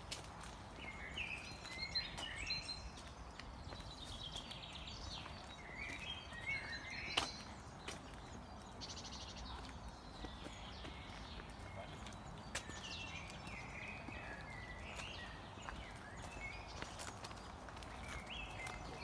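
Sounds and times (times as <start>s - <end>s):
songbirds singing: 0.0s - 19.0s.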